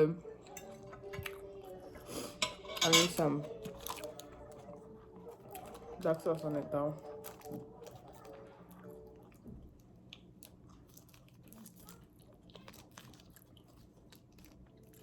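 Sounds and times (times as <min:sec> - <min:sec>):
person chewing food: 0:00.2 - 0:02.4, 0:03.4 - 0:15.0.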